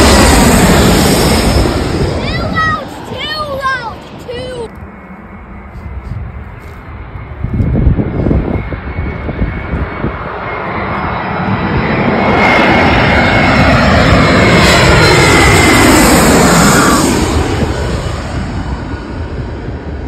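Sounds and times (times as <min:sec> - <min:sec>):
high engine whine: 0:00.0 - 0:20.0
jet airliner passing overhead: 0:00.0 - 0:20.0.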